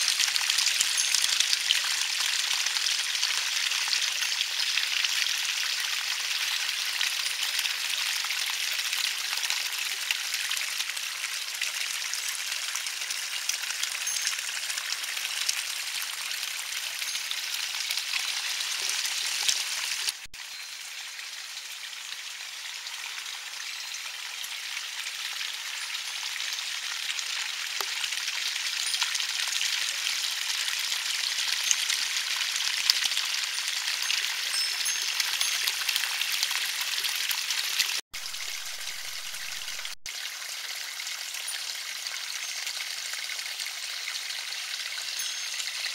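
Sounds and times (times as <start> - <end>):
water trickling over pebbles: 0.0 - 45.9.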